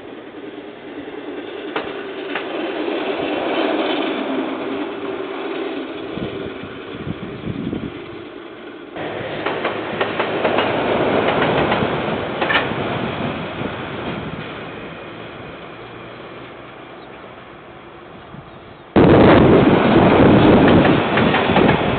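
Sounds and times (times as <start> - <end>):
train wagons rumbling: 0.0 - 21.9
train wheels clattering on rails: 0.1 - 17.5, 18.9 - 21.9.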